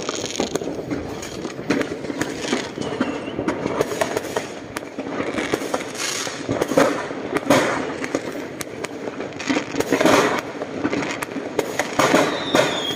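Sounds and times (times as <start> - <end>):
fireworks bangs and crackles: 0.0 - 12.9.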